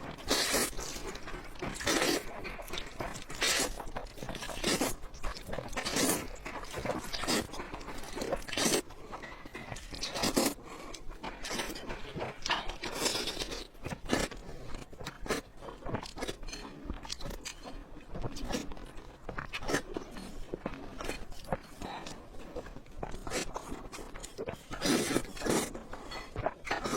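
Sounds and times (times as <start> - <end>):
chewing noodles: 0.0 - 26.9.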